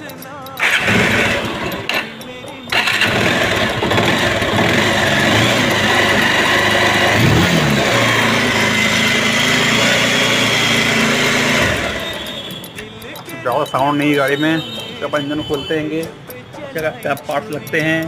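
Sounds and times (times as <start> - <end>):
motorcycle engine idling: 0.6 - 18.0.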